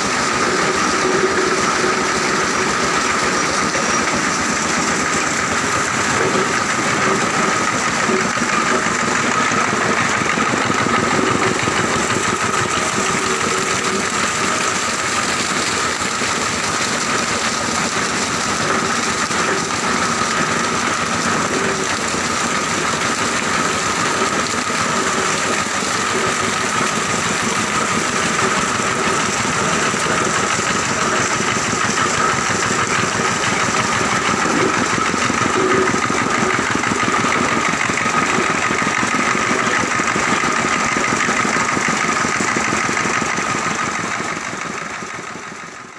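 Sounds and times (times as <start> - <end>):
high machine whine: 0.0 - 45.9
machinery mechanical drone: 0.0 - 45.9.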